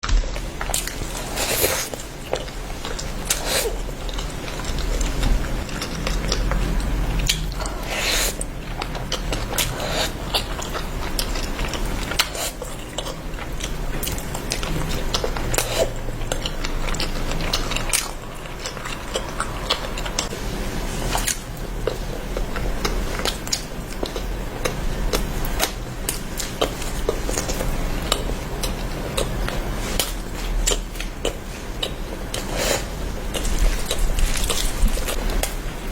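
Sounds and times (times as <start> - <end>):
low steady hum: 0.0 - 35.9
person chewing food: 0.0 - 35.9.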